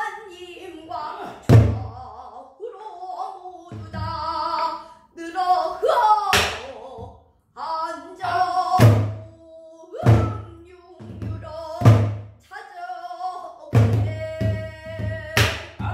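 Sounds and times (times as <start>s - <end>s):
woman singing: 0.0s - 15.9s.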